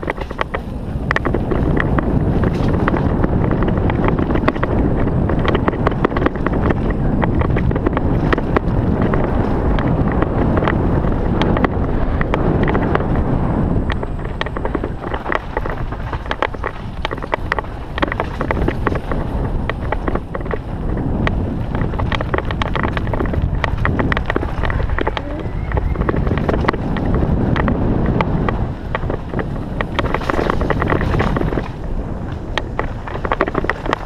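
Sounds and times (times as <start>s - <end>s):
bike and stones rattling: 0.0s - 34.0s
bike tyres rumbling on dirt: 0.0s - 34.0s
wind rushing over microphone: 0.0s - 34.0s.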